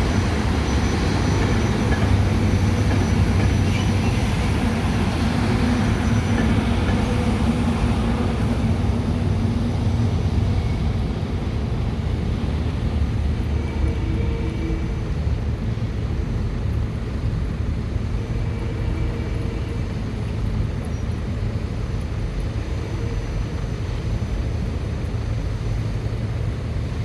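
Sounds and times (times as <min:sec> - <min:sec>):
electric train rumble: 0:00.0 - 0:27.0.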